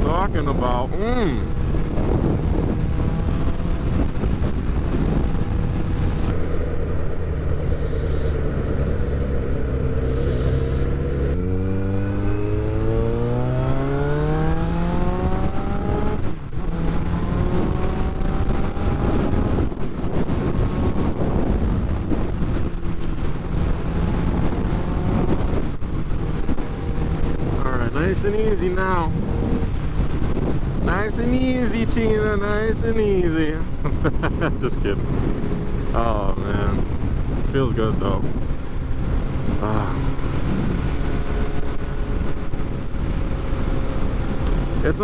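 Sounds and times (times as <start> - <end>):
motorcycle engine revving: 0.0 - 32.8, 33.6 - 45.0
wind on the microphone: 0.0 - 45.0.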